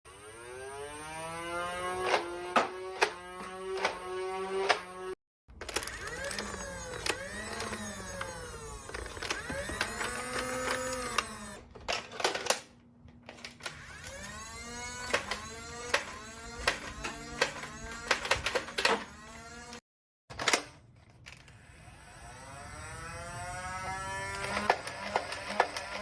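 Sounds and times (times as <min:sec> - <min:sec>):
electric blaster motors whining: 0:00.1 - 0:11.8, 0:13.6 - 0:19.8, 0:21.4 - 0:26.0.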